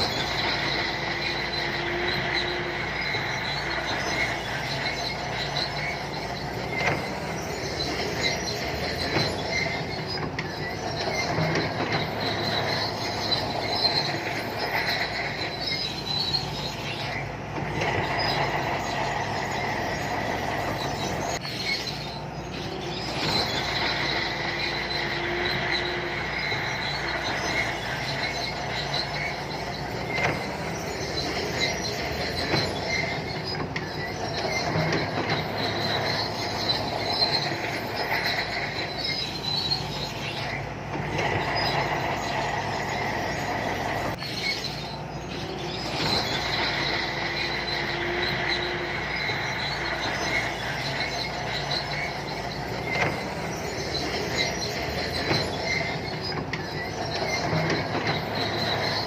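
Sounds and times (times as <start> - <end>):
diesel engine droning: 0.0 - 59.0
steel tracks squealing and clanking: 0.0 - 59.0.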